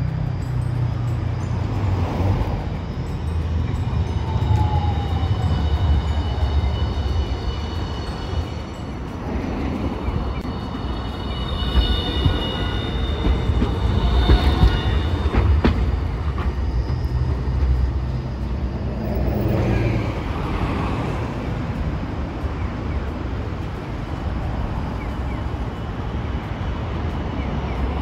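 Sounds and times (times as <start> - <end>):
steady high whine: 0.0 - 28.0
tram wheels rumbling on track: 0.0 - 28.0.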